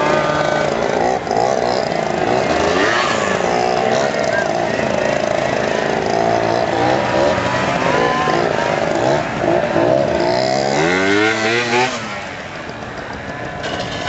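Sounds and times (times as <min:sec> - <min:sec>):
scooter engines revving: 0:00.0 - 0:14.0.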